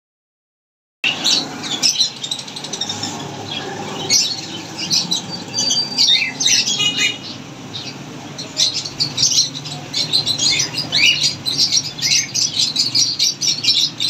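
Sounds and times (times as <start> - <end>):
parrots calling harshly: 1.0 - 14.0.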